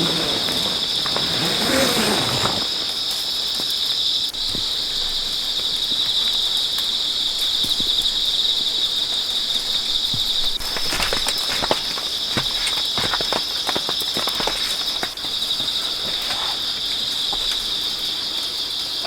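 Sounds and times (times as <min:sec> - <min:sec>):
insect chorus trilling: 0:00.0 - 0:19.0.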